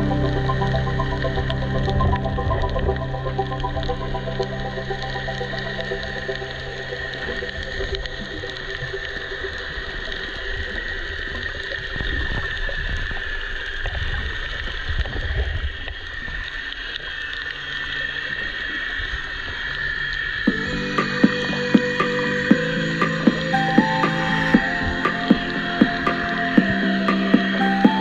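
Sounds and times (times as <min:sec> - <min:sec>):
muffled water swells: 0:00.0 - 0:27.9.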